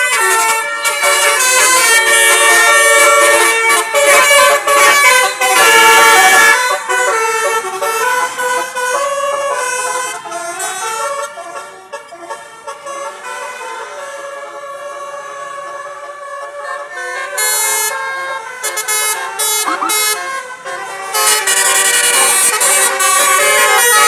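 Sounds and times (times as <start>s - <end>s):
multi-tone air horn melody: 0.0s - 24.0s.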